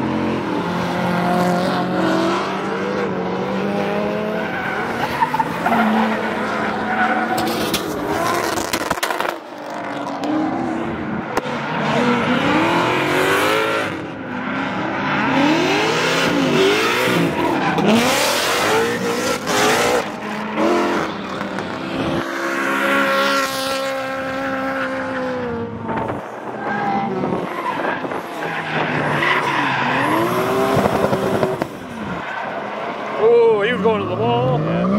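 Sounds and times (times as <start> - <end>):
car engines revving hard: 0.0 - 34.9.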